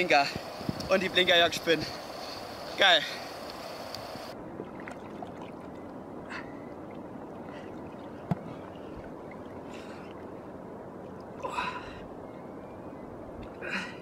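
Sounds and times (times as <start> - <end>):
river water sloshing: 0.0 - 12.5.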